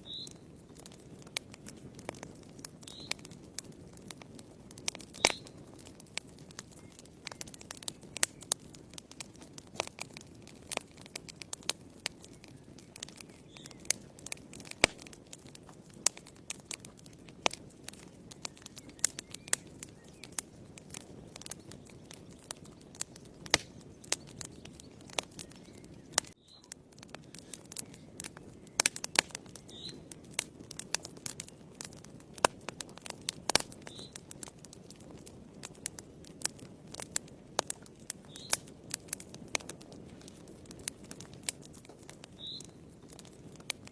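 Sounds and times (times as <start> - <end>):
low rush of flames: 0.0 - 43.9
wood fire crackling and popping: 0.0 - 43.9.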